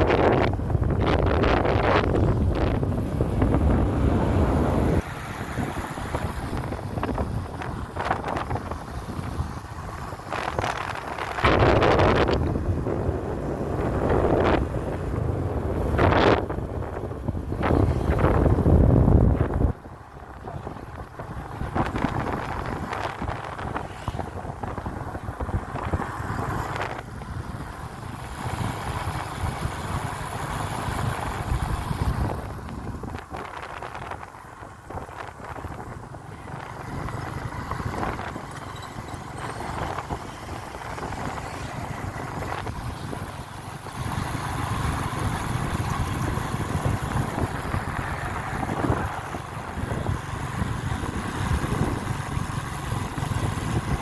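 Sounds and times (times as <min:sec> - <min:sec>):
moving vehicle noise: 0:00.0 - 0:54.0
wind buffeting microphone: 0:00.0 - 0:54.0.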